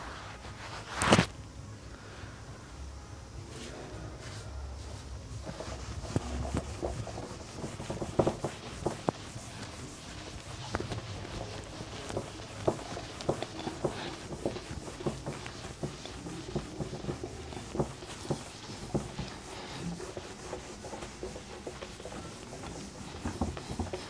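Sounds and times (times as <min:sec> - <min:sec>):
cloth wiping whiteboard: 0:00.0 - 0:01.3, 0:03.5 - 0:24.0.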